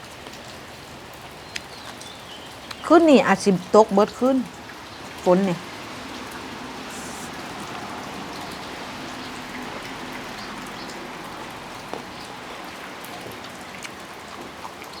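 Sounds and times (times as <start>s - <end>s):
rain falling: 0.0s - 15.0s
drops ticking: 1.1s - 14.4s.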